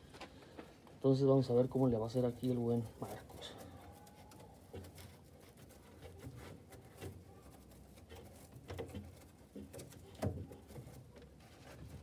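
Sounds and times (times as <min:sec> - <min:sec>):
light knocks and rubs: 0:02.4 - 0:12.0.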